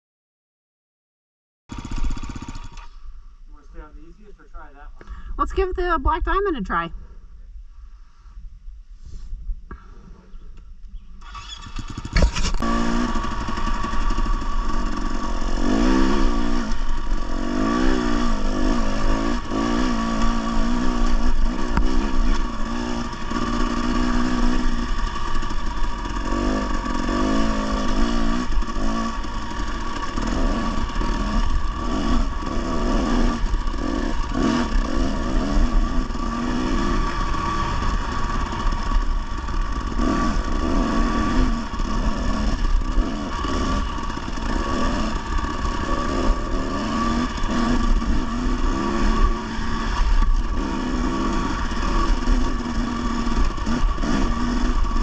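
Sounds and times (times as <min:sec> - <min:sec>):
dirt bike engine revving: 0:01.7 - 0:03.0, 0:05.1 - 0:06.9, 0:11.2 - 0:55.0.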